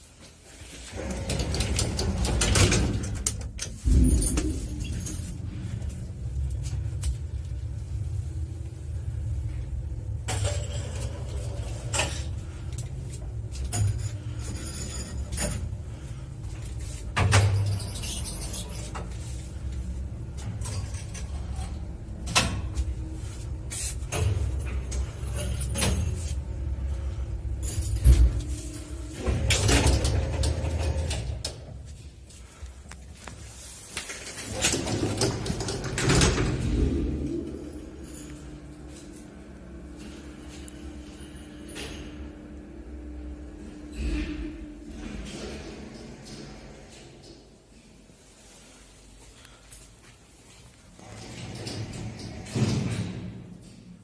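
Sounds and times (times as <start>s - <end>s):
elevator rumble: 0.8s - 49.5s.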